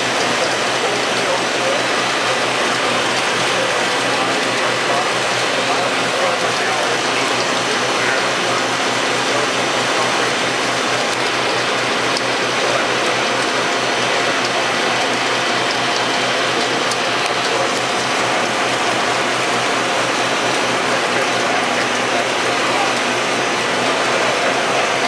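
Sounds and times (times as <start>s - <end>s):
machining center mechanical rattle: 0.0s - 25.0s.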